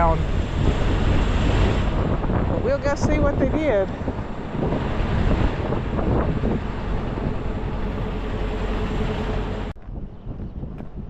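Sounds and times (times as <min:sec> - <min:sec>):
low rumble of vehicle engines: 0:00.0 - 0:11.0
wind on microphone: 0:00.0 - 0:11.0.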